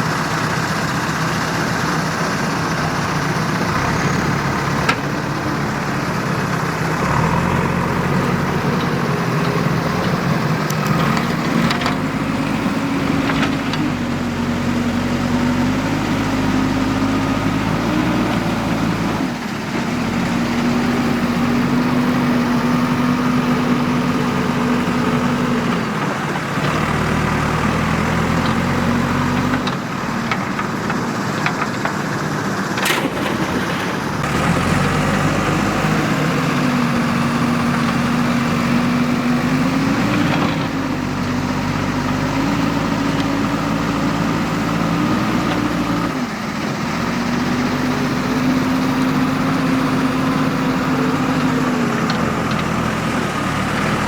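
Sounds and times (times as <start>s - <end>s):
backhoe diesel engine working: 0.0s - 54.0s.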